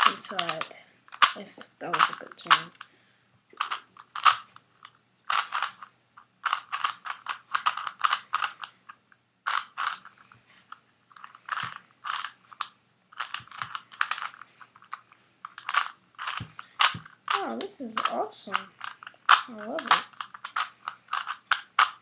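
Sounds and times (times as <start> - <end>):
puzzle cube clicking turns: 0.0 - 2.9, 3.6 - 22.0.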